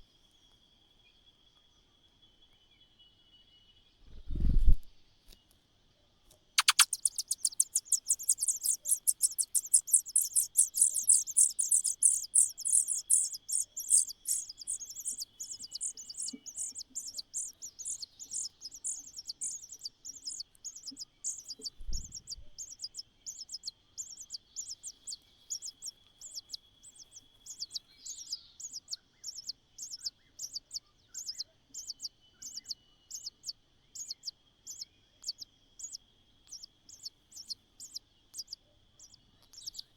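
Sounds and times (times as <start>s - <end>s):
nestlings begging calls: 6.6s - 33.3s, 33.9s - 39.8s.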